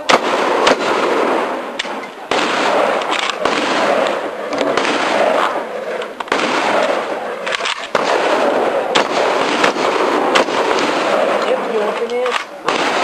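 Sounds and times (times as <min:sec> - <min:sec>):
shotgun shots: 0:00.0 - 0:13.0.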